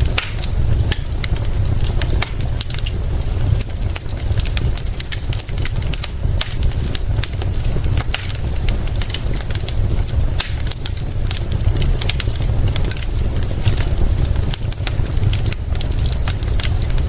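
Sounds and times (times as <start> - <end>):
continuous low rumble: 0.0 - 17.0
rain hissing: 0.0 - 17.0
wood fire crackling: 0.0 - 17.0.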